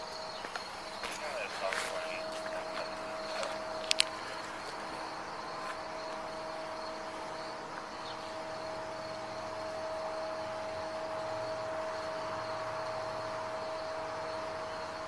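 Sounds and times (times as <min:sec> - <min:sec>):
crickets chirping: 0:00.0 - 0:15.0
steady background hum: 0:00.0 - 0:15.0.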